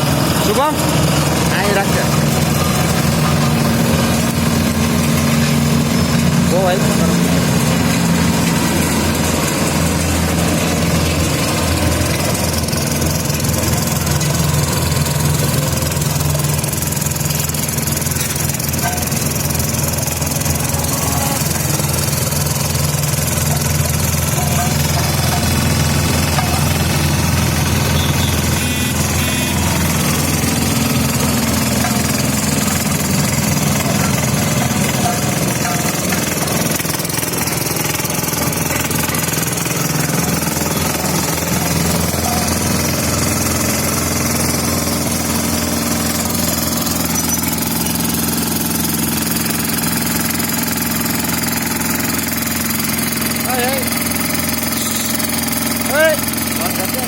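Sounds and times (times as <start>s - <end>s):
road roller engine humming: 0.0s - 57.0s.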